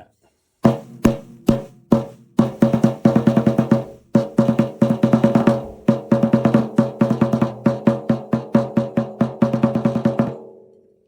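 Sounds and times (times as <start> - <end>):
drum struck rapidly with ringing tone: 0.6 - 10.6.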